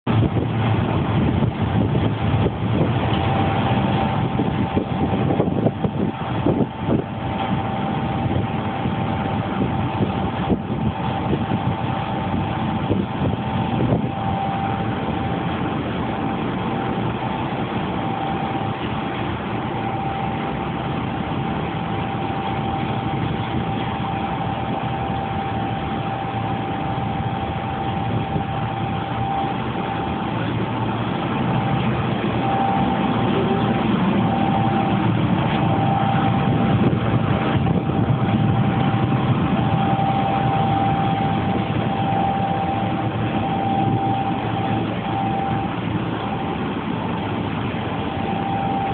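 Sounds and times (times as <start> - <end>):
blower fan air rush: 0.0 - 48.9
constant whine: 0.0 - 48.9.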